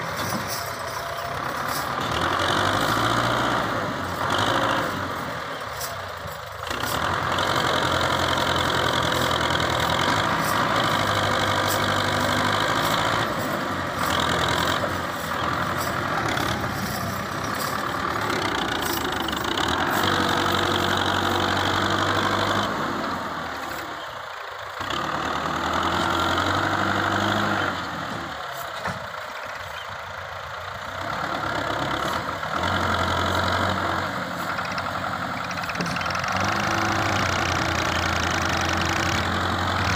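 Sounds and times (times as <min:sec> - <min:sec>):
tractor diesel engine working hard: 0:00.0 - 0:39.9.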